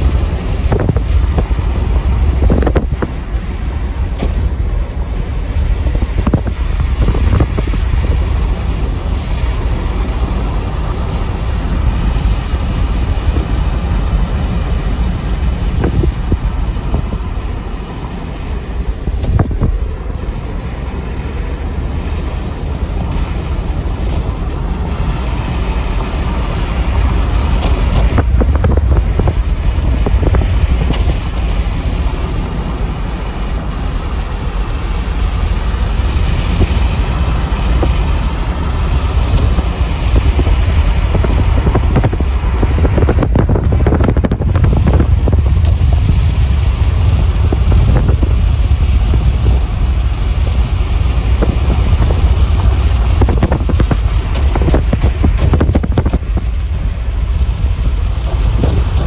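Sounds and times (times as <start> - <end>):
tyre and wind rumble: 0.0 - 59.0.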